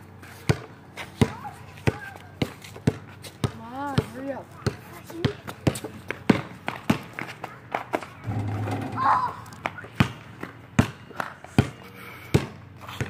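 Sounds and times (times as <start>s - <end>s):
basketball bouncing on asphalt: 0.4s - 7.6s, 8.3s - 13.0s.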